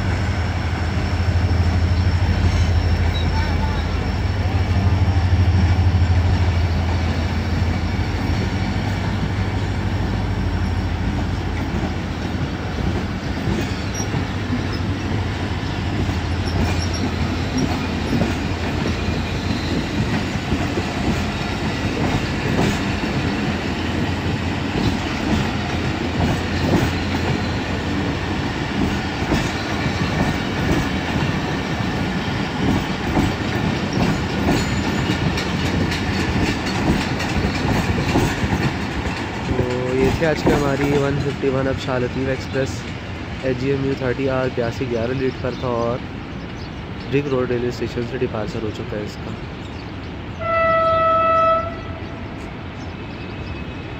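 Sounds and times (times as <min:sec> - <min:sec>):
train coaches rumbling: 0:00.0 - 0:53.9
train wheels clickety-clack: 0:00.8 - 0:49.8.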